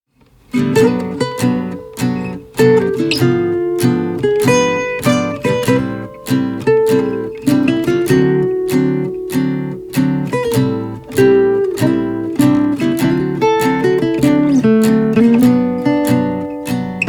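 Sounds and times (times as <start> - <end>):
acoustic guitar strumming: 0.4 - 17.0.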